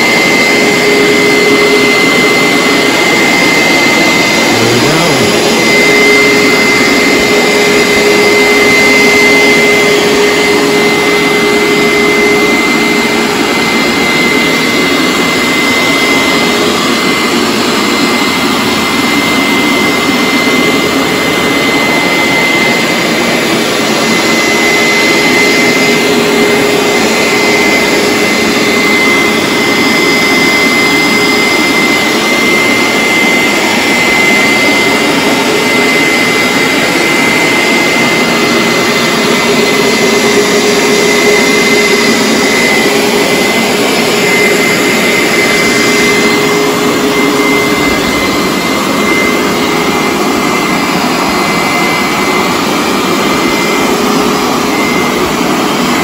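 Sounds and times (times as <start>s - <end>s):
carpet cleaner suction motor: 0.0s - 56.0s.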